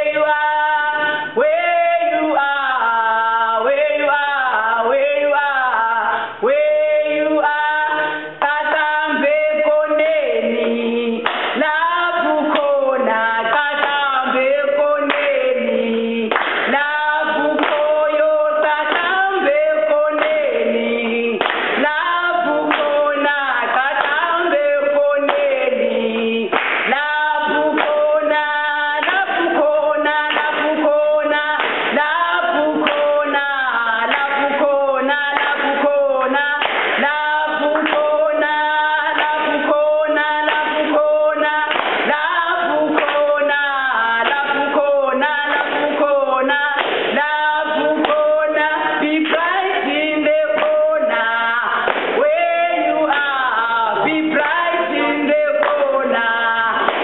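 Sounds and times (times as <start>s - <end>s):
people singing: 0.0s - 57.0s.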